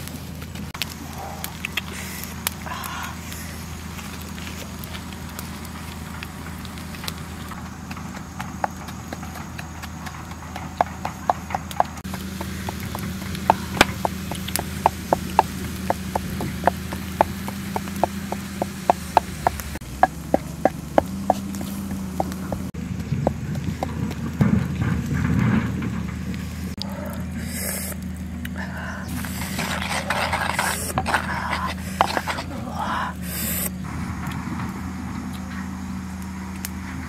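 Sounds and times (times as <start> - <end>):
steady low hum: 0.0 - 37.0
wood fire crackling: 0.0 - 37.0.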